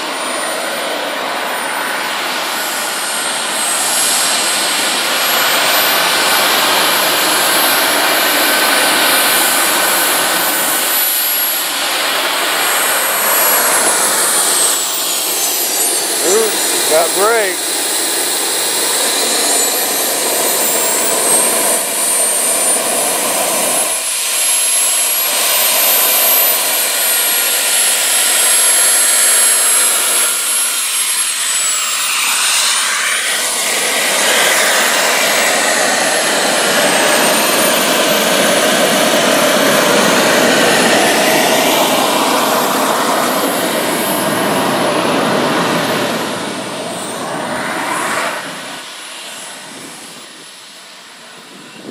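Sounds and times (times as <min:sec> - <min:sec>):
jet turbine whine: 0:00.0 - 0:51.9.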